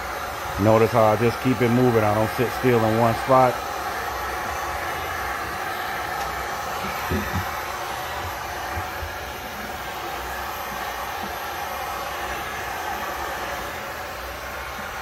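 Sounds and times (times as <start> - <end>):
heat gun blowing hot air: 0.0 - 15.0.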